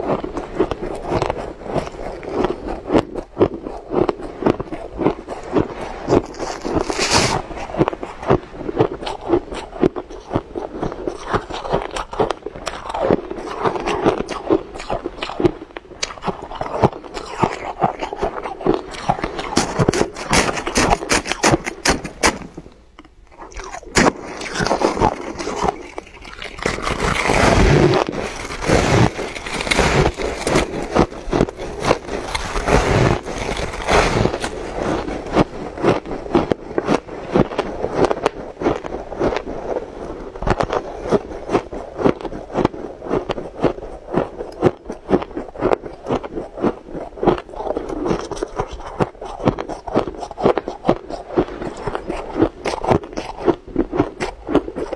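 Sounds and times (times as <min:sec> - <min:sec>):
crunching and chewing ice: 0:00.0 - 0:54.9.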